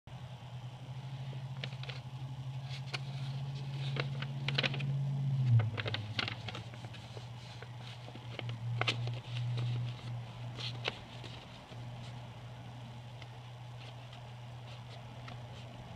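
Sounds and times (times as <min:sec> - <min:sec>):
steady low hum: 0:00.1 - 0:15.9
paper crackling and rustling: 0:01.6 - 0:15.9.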